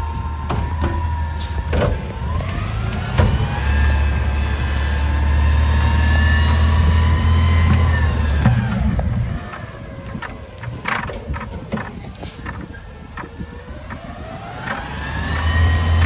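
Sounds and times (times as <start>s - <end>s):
garbage truck engine revving: 0.0s - 16.0s
hydraulic whine: 0.0s - 16.0s.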